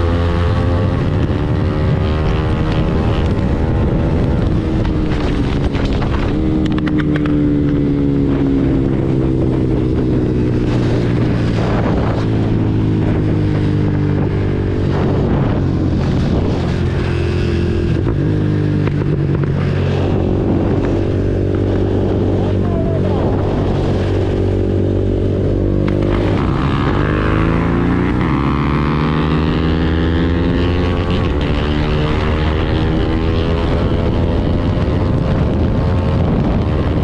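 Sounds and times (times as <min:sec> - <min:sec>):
motorcycle engine at highway speed: 0:00.0 - 0:37.0
wind noise on microphone: 0:00.0 - 0:37.0.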